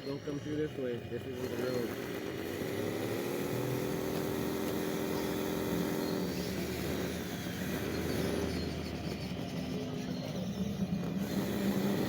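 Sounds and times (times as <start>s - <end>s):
small electric motor whining: 0.0s - 12.0s.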